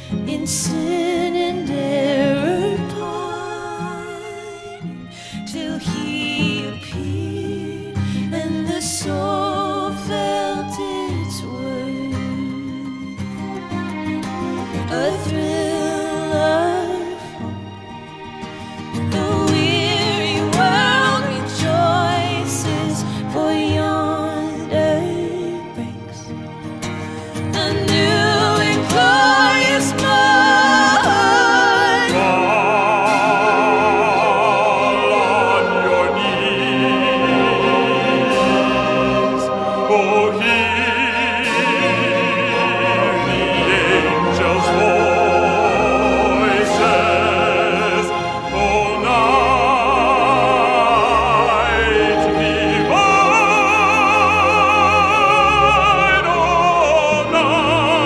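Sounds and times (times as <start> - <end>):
operatic singing: 0.0 - 58.0
instrumental accompaniment: 8.0 - 58.0.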